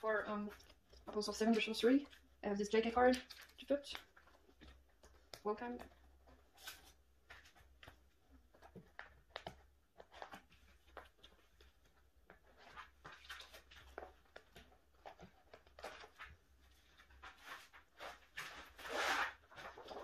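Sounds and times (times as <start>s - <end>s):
plastic sleeves rustling: 0.0s - 20.0s.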